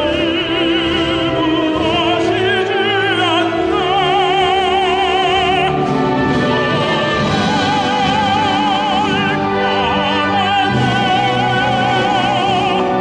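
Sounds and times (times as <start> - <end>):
instrumental accompaniment: 0.0 - 13.0
man singing operatically: 0.0 - 13.0.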